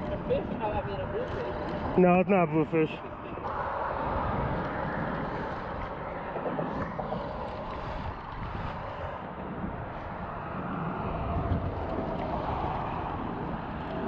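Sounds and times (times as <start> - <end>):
road traffic rumble: 0.0 - 14.0
wind on microphone: 0.0 - 14.0.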